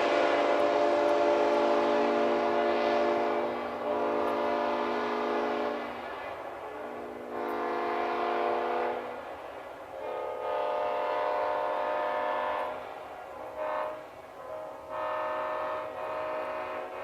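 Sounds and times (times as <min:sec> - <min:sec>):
locomotive air horn: 0:00.0 - 0:17.0.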